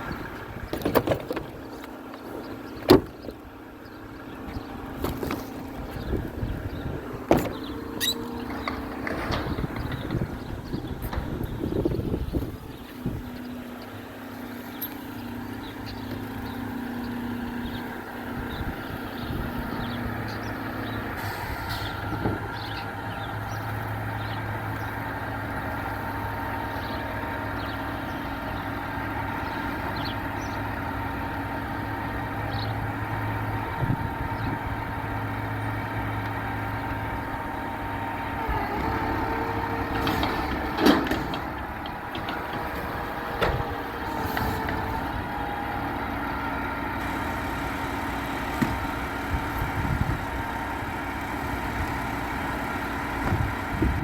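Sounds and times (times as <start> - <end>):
garbage truck engine idling: 0.0 - 54.0.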